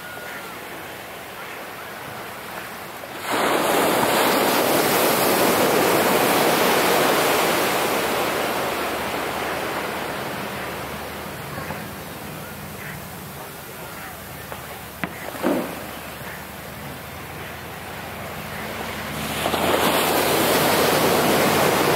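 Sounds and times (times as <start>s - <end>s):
ocean wave breaking on beach: 0.0s - 21.9s.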